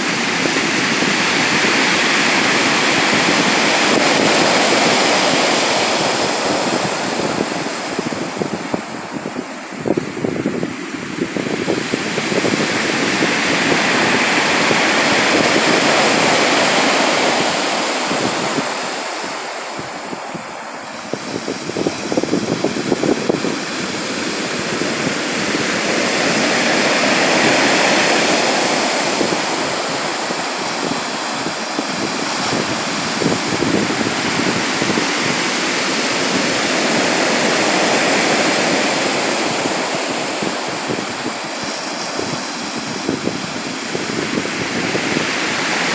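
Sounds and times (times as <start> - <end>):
sea waves washing ashore: 0.0 - 45.9.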